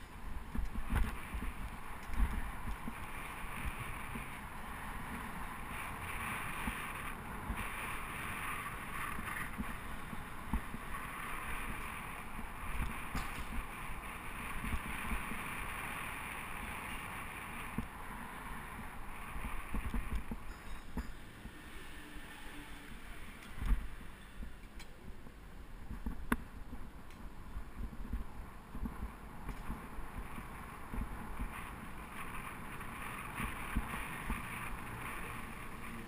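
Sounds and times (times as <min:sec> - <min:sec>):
low bumps from road surface: 0:00.0 - 0:21.7, 0:22.9 - 0:36.0
bicycle road noise: 0:00.0 - 0:36.0
wind: 0:00.0 - 0:36.0.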